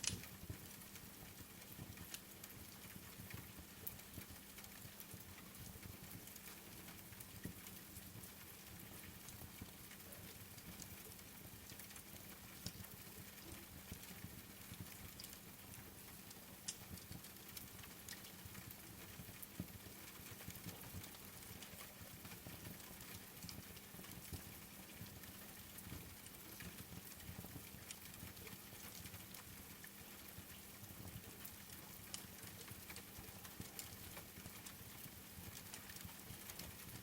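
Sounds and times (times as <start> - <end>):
faint steady rain: 0.0 - 37.0
wood fire crackling: 0.0 - 37.0.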